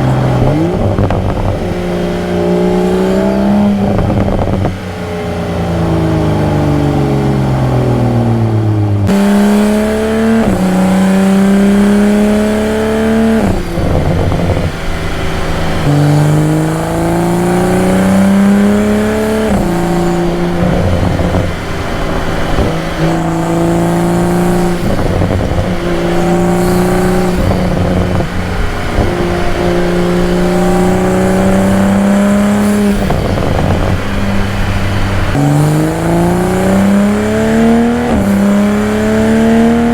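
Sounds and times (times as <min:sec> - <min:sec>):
car engine revving with gear changes: 0:00.0 - 0:39.9.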